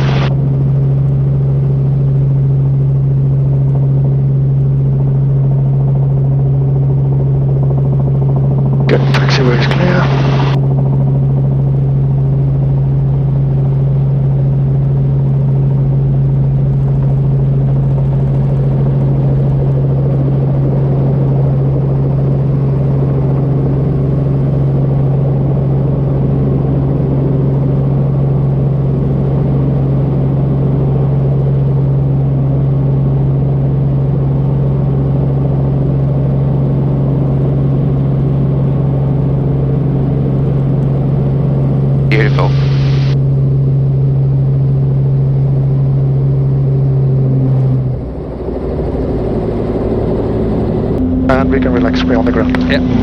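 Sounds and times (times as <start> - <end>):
helicopter engine and rotors droning: 0.0 - 53.0.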